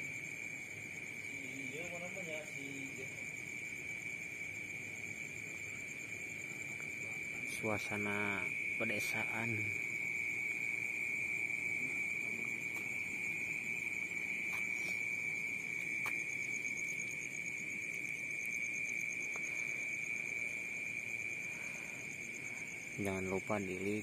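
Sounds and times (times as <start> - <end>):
higher pulsing insect call: 0.0 - 24.0
insects trilling: 0.0 - 24.0.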